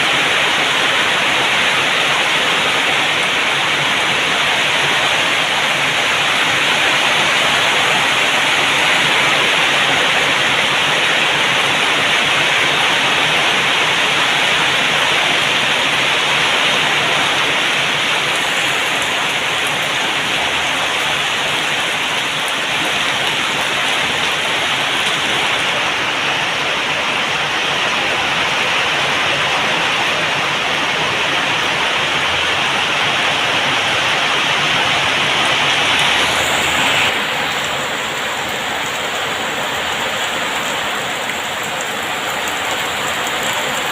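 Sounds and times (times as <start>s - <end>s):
heavy rain hiss: 0.0s - 43.9s.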